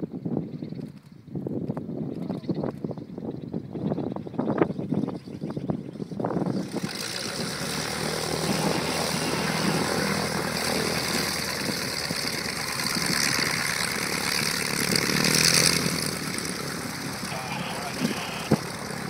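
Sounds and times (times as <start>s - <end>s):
propeller aircraft engine running: 0.0s - 19.0s.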